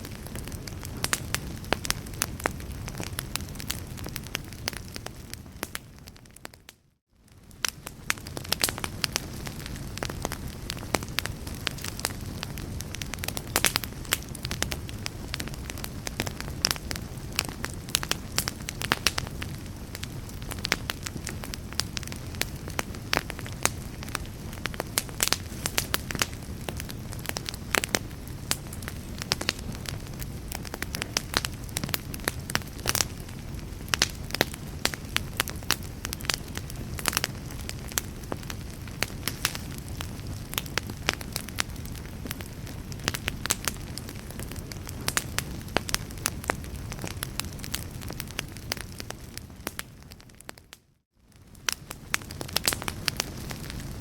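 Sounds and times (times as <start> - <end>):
fire crackling: 0.0 - 54.0.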